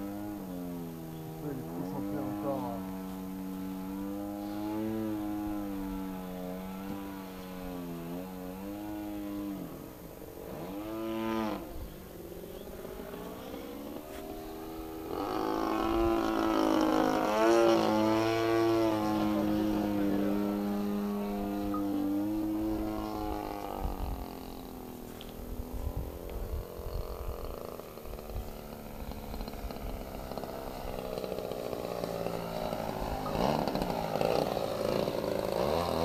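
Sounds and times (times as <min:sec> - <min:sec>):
model plane engine droning: 0:00.0 - 0:36.0.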